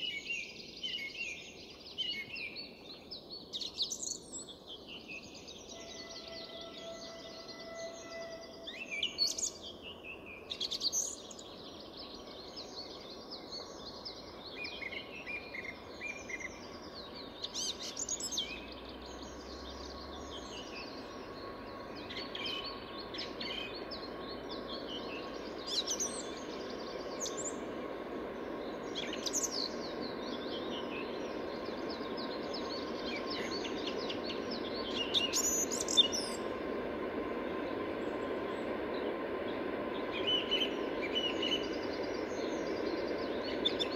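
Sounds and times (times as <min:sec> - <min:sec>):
steady background noise: 0:08.4 - 0:43.9.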